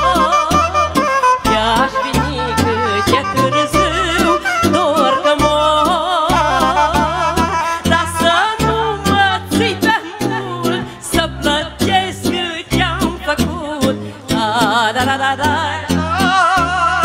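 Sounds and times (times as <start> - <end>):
folk dance music with keyboard: 0.0 - 17.0.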